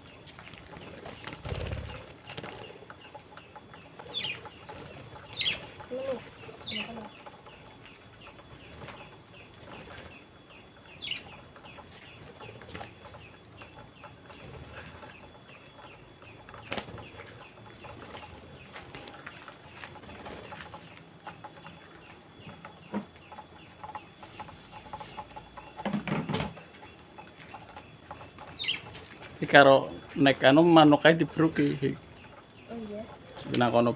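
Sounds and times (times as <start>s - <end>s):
birds chirping and chattering: 0.0s - 33.9s.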